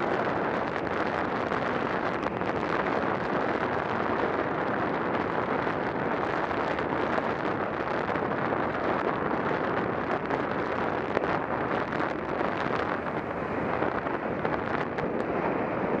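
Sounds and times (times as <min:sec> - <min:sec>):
road noise: 0:00.0 - 0:16.0
wind on microphone: 0:00.0 - 0:16.0.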